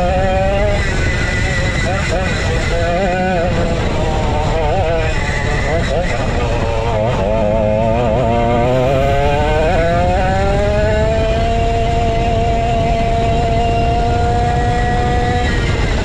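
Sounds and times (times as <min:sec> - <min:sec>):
go-kart engine revving: 0:00.0 - 0:16.0
steady rushing noise: 0:00.0 - 0:16.0.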